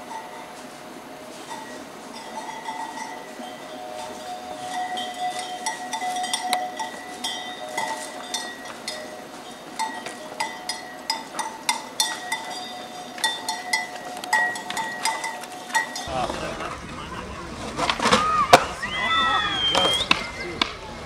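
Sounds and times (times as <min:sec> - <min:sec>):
cow bell clanking: 0:00.0 - 0:18.2.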